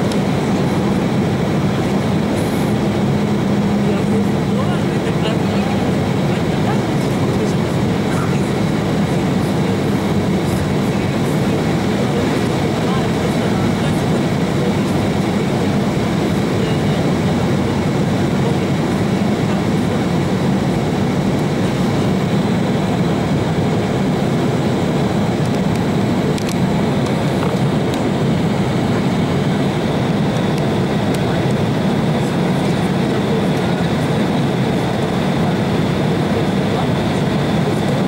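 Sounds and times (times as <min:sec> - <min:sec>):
jet engine drone: 0:00.0 - 0:38.0.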